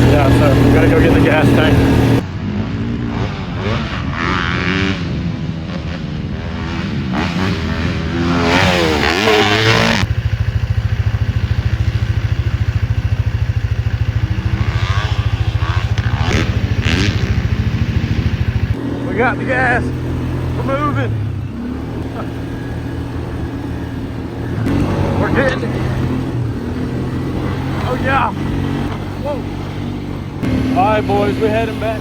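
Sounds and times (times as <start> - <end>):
engine running at steady pulse: 0.0 - 32.0
off-road vehicle engine: 0.0 - 32.0.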